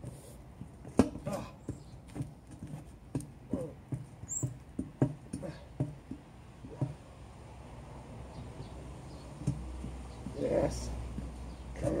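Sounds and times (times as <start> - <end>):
rubber tyre knocking and squeaking: 0.0 - 7.1, 8.6 - 12.0.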